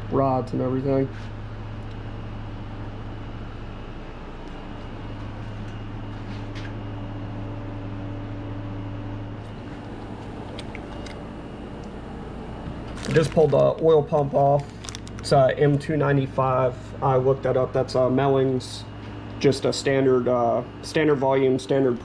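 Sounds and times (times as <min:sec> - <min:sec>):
shop machinery hum: 0:00.0 - 0:22.0.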